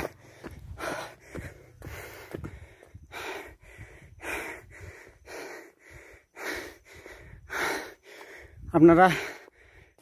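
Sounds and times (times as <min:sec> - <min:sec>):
man breathing heavily: 0:00.0 - 0:10.0.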